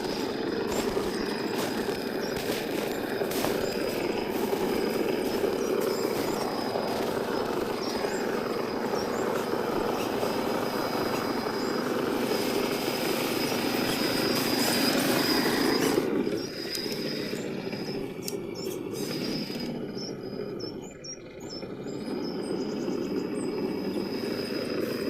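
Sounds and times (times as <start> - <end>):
electric motor and gears whining: 0.0 - 25.0.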